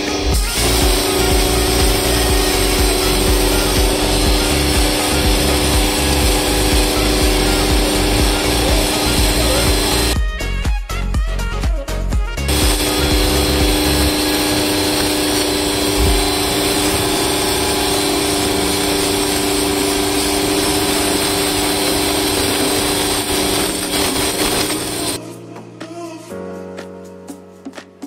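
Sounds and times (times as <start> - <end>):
pressure washer motor humming: 0.0 - 10.2, 12.5 - 25.2
water jet hissing on concrete: 0.0 - 10.2, 12.5 - 25.2.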